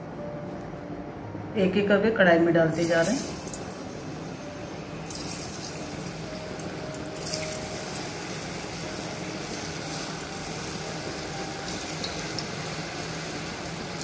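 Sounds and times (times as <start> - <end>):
oil sizzling with frying potatoes: 2.8 - 14.0.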